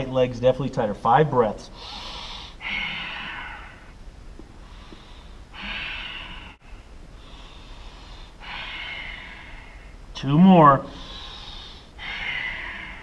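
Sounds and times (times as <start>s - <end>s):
man breathing deeply: 1.7s - 10.1s, 10.8s - 13.0s.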